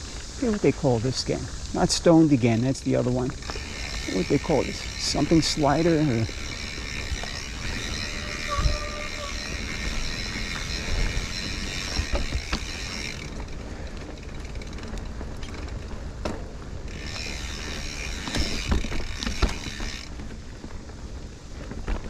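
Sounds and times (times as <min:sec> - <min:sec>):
bicycle freewheel hub buzzing: 0:00.0 - 0:22.0
low rumble of riding: 0:00.0 - 0:22.0
bike knocking over rough ground: 0:03.3 - 0:22.0.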